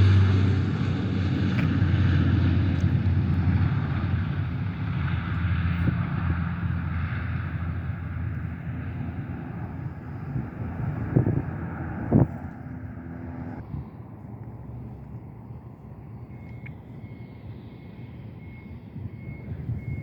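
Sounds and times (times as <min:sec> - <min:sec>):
airliner engine rumble: 0:00.0 - 0:20.0.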